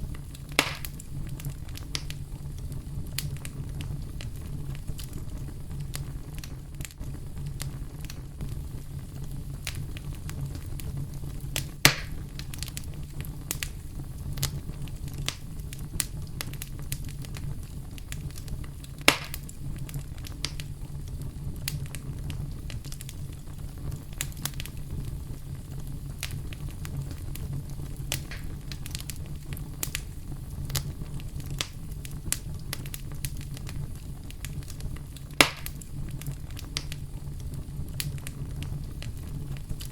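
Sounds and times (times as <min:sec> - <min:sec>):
deep rumble of brown noise: 0:00.0 - 0:39.9
fire snaps: 0:00.0 - 0:39.9
wood fire crackling: 0:00.0 - 0:39.9.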